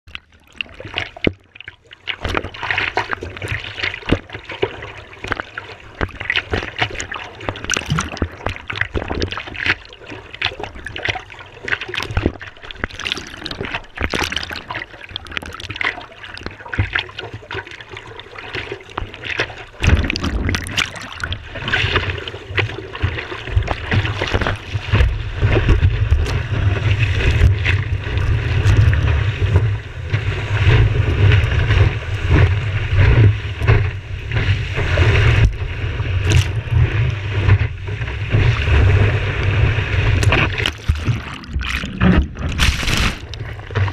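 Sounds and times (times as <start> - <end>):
water lapping and splashing: 0.0 - 43.9.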